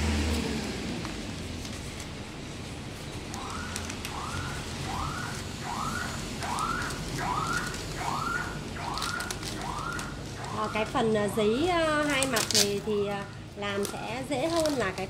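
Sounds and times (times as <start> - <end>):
wrapping paper crinkling and rustling: 1.0 - 15.0.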